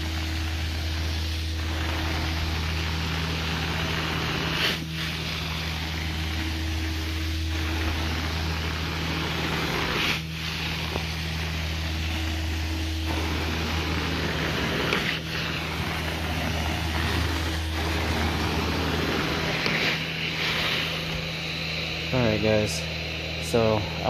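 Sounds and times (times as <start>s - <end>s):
cleaning machine humming: 0.0s - 24.0s
extraction wand hissing: 0.0s - 24.0s.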